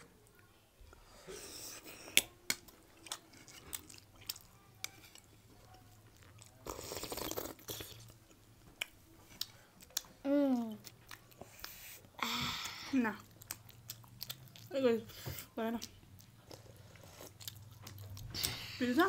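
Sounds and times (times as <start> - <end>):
chewing and biting food: 1.8 - 12.2, 13.0 - 18.8.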